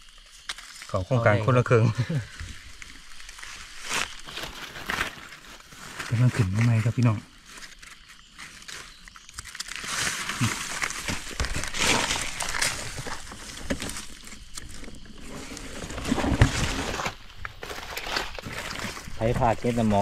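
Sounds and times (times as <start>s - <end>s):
leaf litter rustling and crunching: 0.0s - 20.0s.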